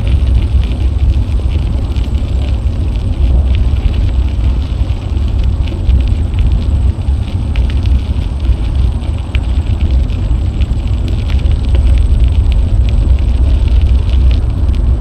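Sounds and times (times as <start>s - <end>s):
bicycle clicks and rattles: 0.0s - 15.0s
wind buffeting microphone: 0.0s - 15.0s.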